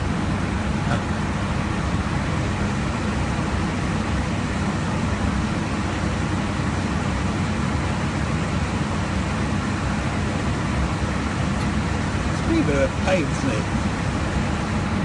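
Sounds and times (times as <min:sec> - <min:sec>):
aircraft cabin airflow noise: 0:00.0 - 0:15.0.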